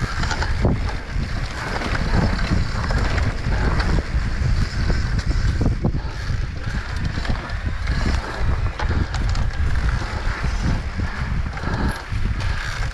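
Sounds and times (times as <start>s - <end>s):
bike knocks and rattles: 0.0s - 12.9s
tyres rolling on dirt: 0.0s - 12.9s
wind rushing over microphone: 0.0s - 12.9s.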